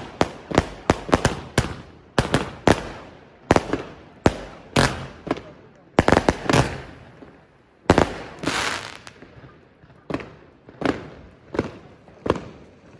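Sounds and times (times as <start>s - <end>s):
firework bangs: 0.0s - 12.9s
firework crackling: 0.0s - 12.9s.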